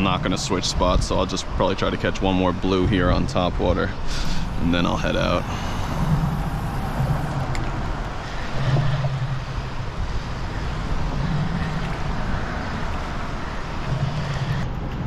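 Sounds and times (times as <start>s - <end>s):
steady rushing noise: 0.0s - 15.0s
traffic hum on bridge: 0.0s - 15.0s.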